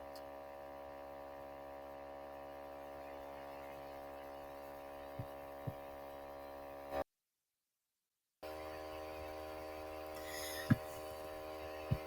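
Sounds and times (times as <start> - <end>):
electrical mains hum: 0.0 - 7.0, 8.4 - 12.0.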